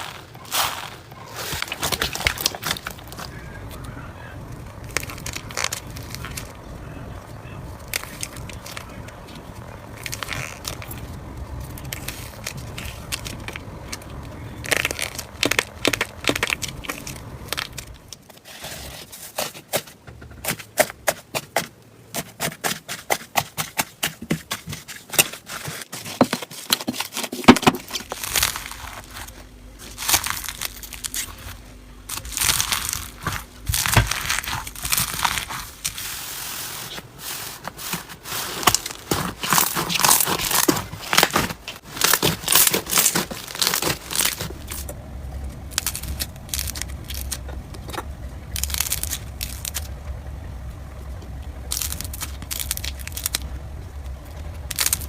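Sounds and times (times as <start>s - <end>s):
slime crackling and popping: 0.0s - 18.3s, 26.9s - 50.0s, 51.1s - 55.0s.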